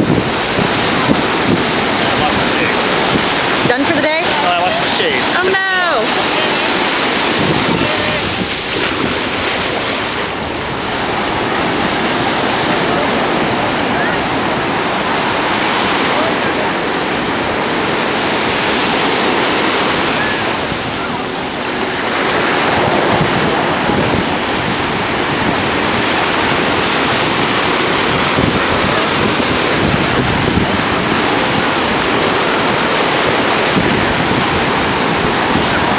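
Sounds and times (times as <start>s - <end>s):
small waves breaking: 0.0s - 35.9s.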